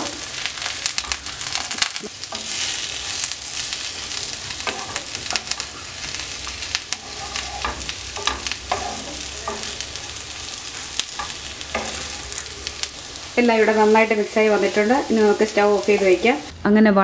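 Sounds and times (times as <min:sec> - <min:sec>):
spatula scraping a pan: 0:00.0 - 0:16.0
chicken sizzling in a pan: 0:00.0 - 0:16.5.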